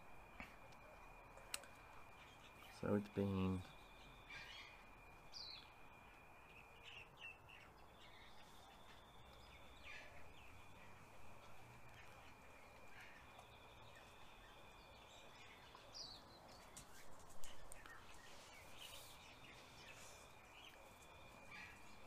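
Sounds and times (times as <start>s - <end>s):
faint bird chirps: 0.0s - 22.0s
faint steady high tone: 0.0s - 22.0s.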